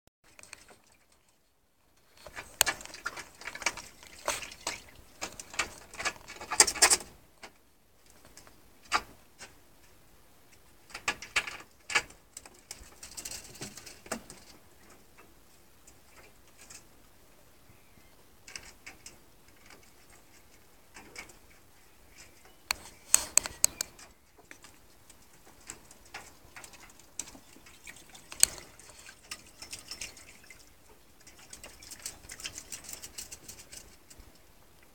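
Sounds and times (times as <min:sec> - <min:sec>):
ferrets scrabbling in wire hutch: 0:00.3 - 0:01.4, 0:02.0 - 0:07.5, 0:10.9 - 0:16.9, 0:18.4 - 0:34.5.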